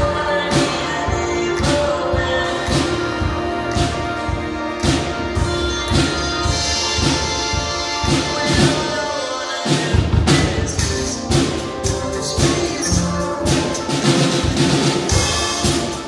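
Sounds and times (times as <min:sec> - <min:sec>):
drum kit playing: 0:00.0 - 0:16.0.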